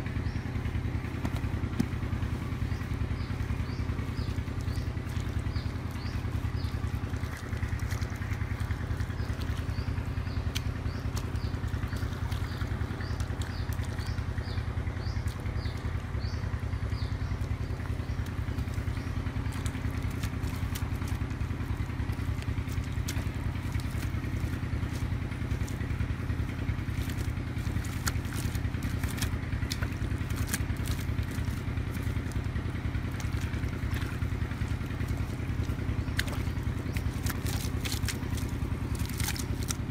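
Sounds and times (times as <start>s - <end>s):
small engine droning: 0.0s - 39.9s
wet mud squelching by hand: 0.0s - 39.9s.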